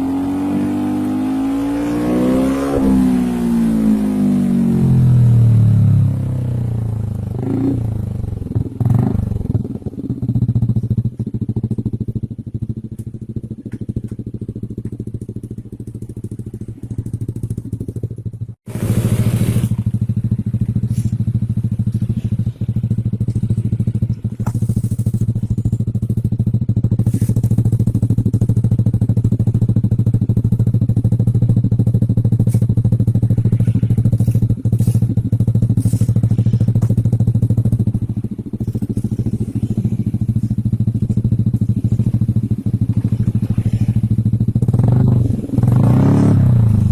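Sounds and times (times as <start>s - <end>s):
scooter engine idling: 1.0s - 46.9s.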